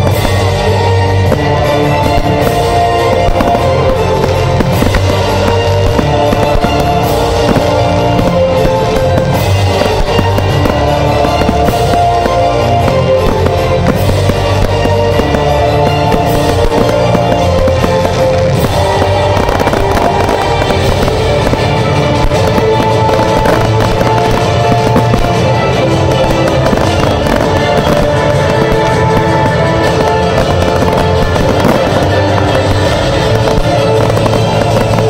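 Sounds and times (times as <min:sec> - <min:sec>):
fireworks bangs and crackling: 0:00.0 - 0:35.0
music with held notes and bass: 0:00.0 - 0:35.0.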